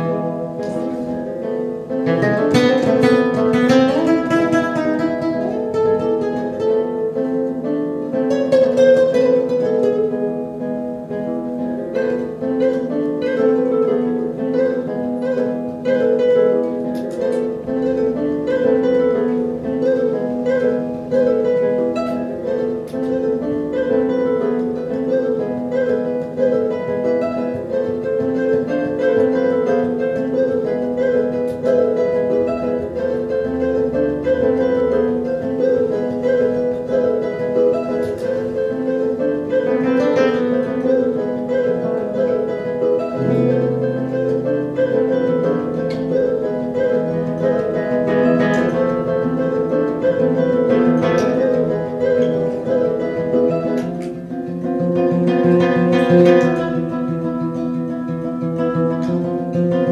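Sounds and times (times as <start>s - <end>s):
classical guitar fingerpicking: 0.0s - 59.9s.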